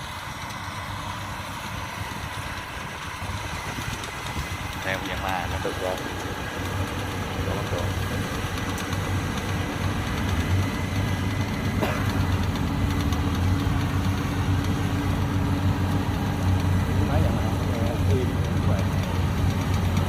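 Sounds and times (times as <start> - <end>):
harvester engine humming: 0.0 - 20.0.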